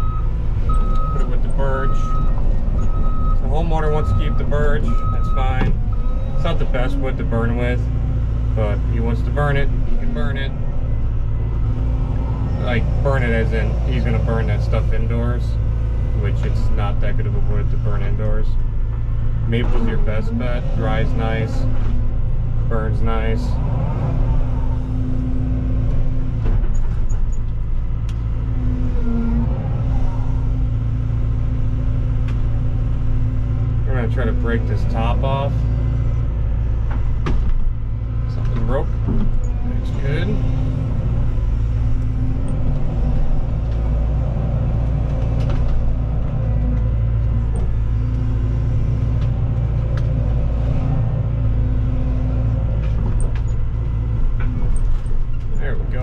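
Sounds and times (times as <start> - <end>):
excavator diesel engine running: 0.0 - 56.0
hydraulics working: 0.0 - 56.0.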